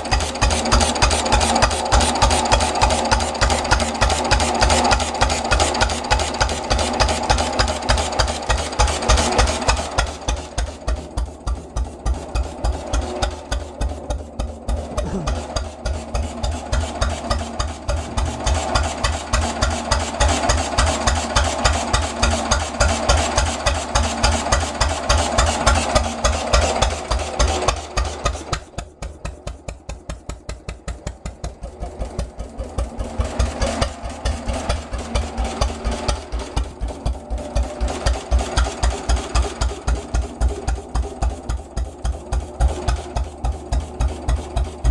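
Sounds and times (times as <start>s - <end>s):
stationary engine running: 0.0s - 44.9s.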